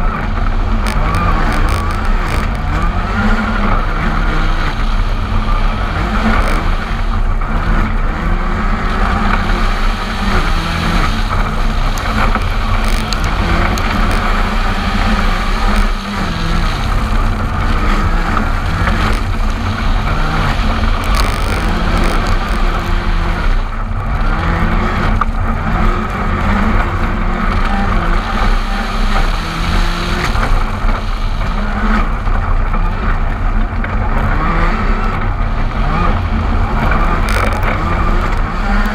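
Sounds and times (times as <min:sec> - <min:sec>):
rally car engine revving: 0:00.0 - 0:38.9
road and wind noise: 0:00.0 - 0:38.9.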